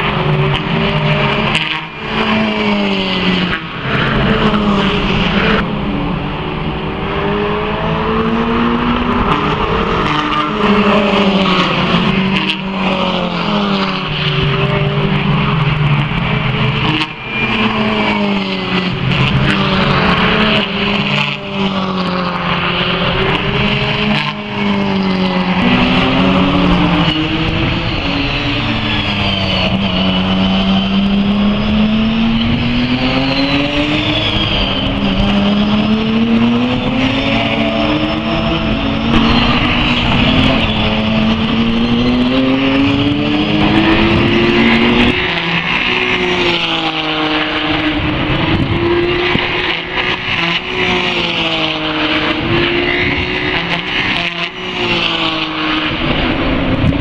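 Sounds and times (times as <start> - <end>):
racing car engines passing: 0.0 - 57.0.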